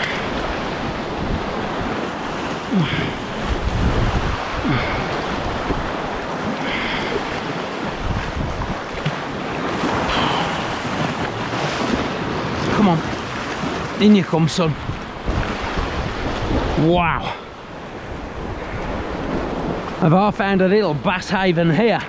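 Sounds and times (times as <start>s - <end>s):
wind buffeting microphone: 0.0s - 20.0s
sea waves washing: 0.0s - 22.0s.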